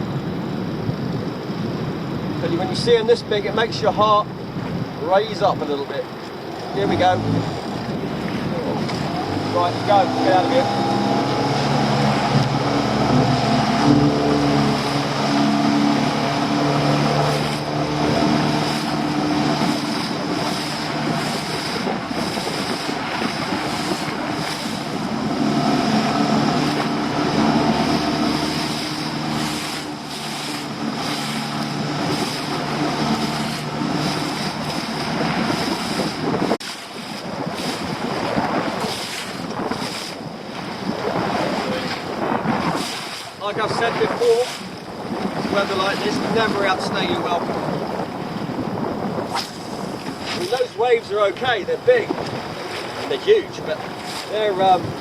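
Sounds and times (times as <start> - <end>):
boat engine running: 0.0 - 55.0
water around hull: 0.0 - 55.0
wind on microphone: 0.0 - 55.0.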